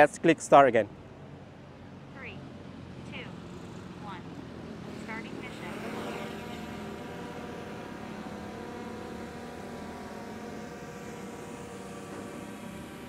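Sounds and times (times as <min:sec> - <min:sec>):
drone propellers whining: 0:01.8 - 0:13.0.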